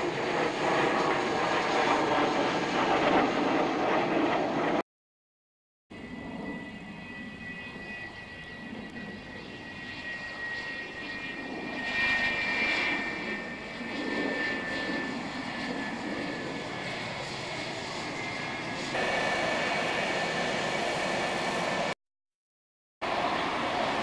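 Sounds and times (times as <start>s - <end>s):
jet engines whining: 0.0s - 4.8s, 6.0s - 22.0s, 23.0s - 24.0s.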